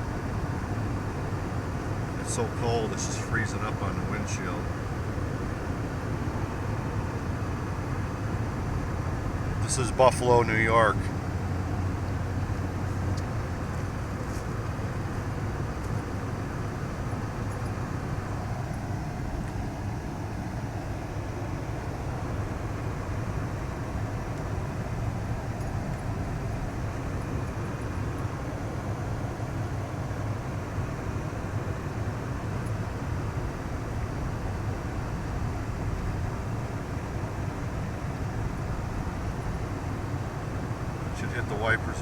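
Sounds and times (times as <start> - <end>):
engine and road noise in cabin: 0.0 - 42.0.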